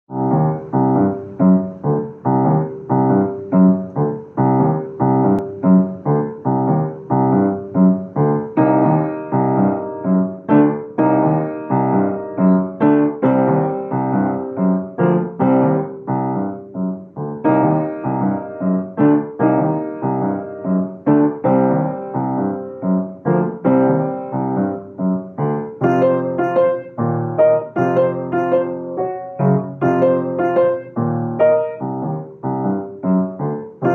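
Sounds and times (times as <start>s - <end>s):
solo piano piece: 0.1s - 33.9s.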